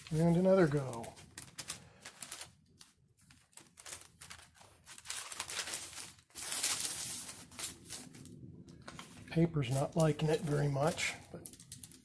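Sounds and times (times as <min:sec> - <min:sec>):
paper and fabric rustling: 0:00.0 - 0:12.0.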